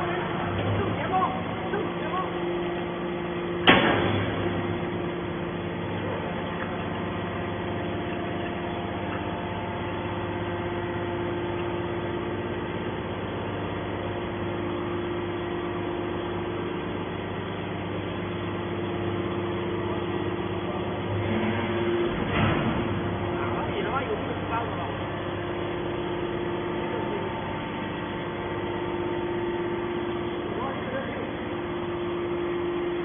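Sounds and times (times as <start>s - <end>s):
hydraulic baler machine hum: 0.0s - 33.0s.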